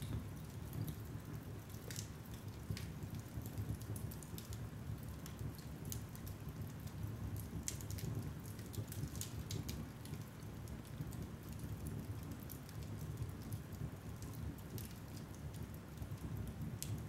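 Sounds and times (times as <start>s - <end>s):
logs crackling and popping: 0.0s - 17.0s.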